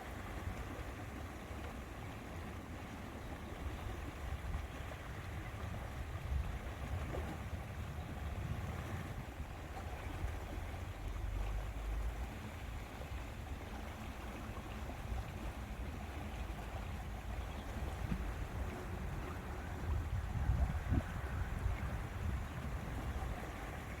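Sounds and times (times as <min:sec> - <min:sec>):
water moving: 0:00.0 - 0:24.0
wind rumble on microphone: 0:03.3 - 0:24.0.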